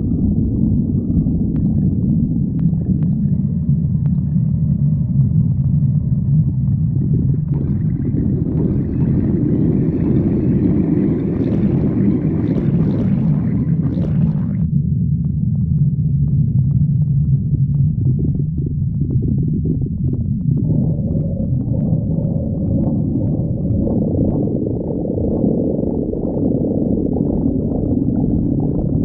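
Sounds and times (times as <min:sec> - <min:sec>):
stomach growling: 0:00.0 - 0:29.0
stomach gurgling: 0:00.0 - 0:29.0.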